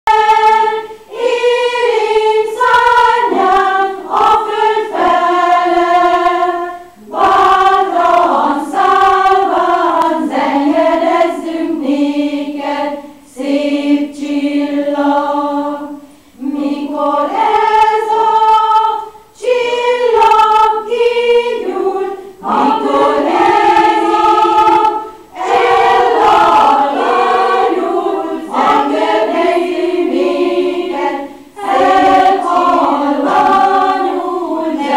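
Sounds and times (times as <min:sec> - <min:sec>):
choir singing: 0:00.1 - 0:34.9.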